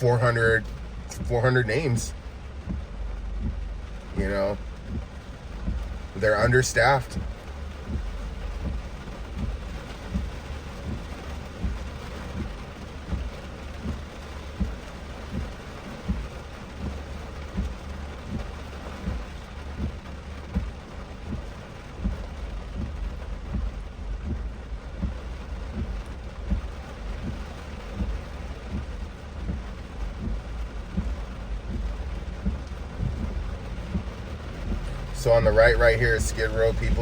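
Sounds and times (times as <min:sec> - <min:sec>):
heavy raindrop thumps: 0:00.0 - 0:37.0
rain pattering on a car: 0:00.0 - 0:37.0
road rumble: 0:00.0 - 0:37.0.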